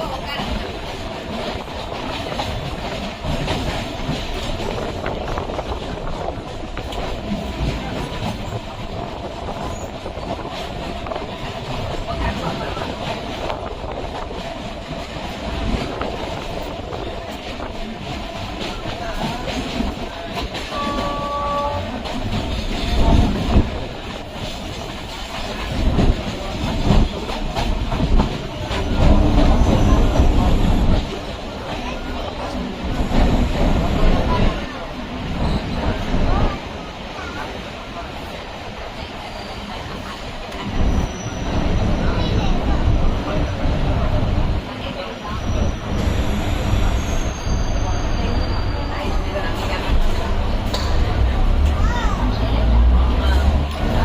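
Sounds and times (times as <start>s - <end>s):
electric train rumbling on track: 0.0s - 54.0s
train carriage and wheels rattling: 0.0s - 54.0s.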